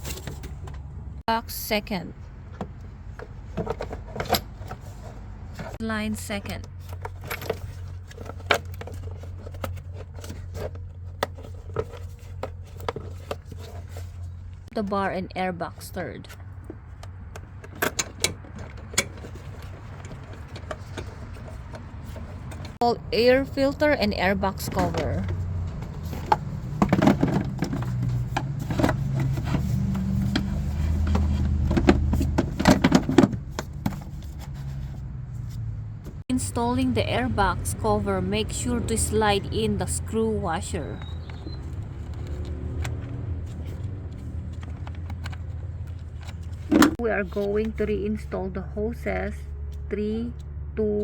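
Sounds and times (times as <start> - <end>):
car parts clicking and knocking: 0.0 - 1.3, 2.2 - 14.7, 16.2 - 36.3, 40.9 - 47.8.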